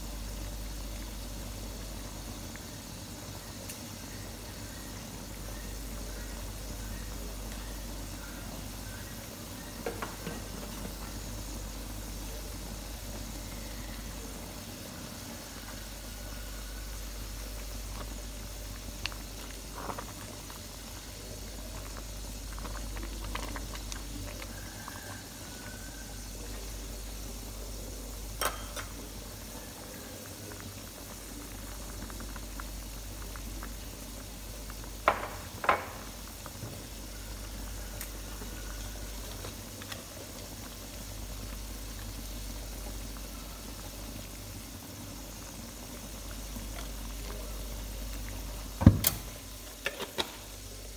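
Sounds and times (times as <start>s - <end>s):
soup bubbling in pot: 0.0s - 50.9s.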